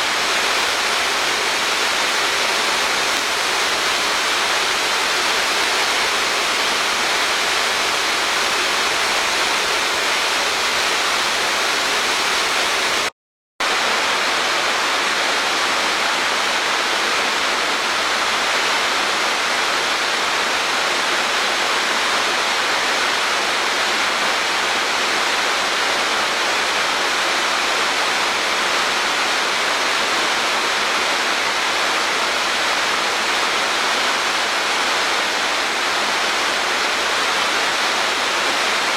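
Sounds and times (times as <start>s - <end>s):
waterfall rushing: 0.0s - 21.0s, 23.4s - 38.9s.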